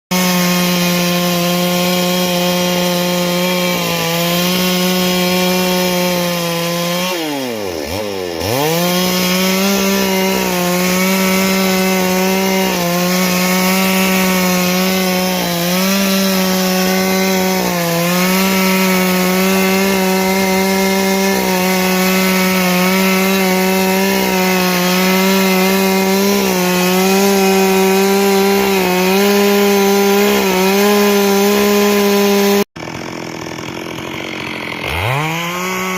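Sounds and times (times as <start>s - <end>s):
chainsaw cutting a tree: 0.1s - 35.9s.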